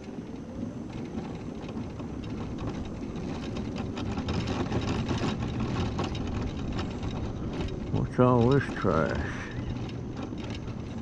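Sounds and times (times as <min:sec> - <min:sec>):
scooter body rattling: 0:00.0 - 0:11.0
scooter tyres rumbling on asphalt: 0:00.0 - 0:11.0.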